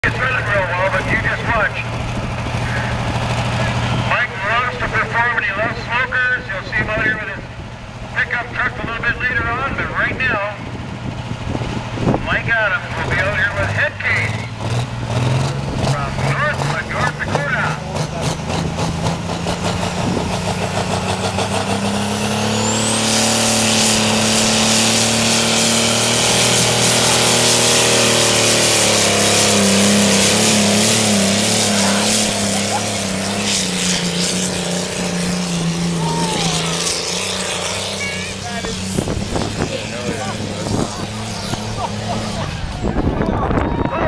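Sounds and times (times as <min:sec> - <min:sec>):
diesel engine working hard: 0:00.0 - 0:44.0.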